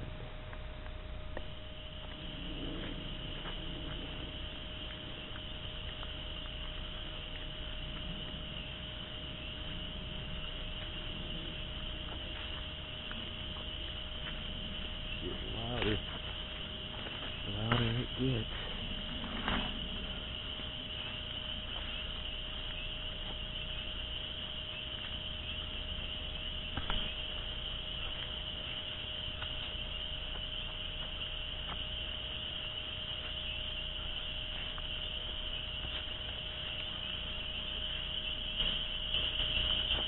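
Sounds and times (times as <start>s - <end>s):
spring peepers calling: 0.0s - 40.0s.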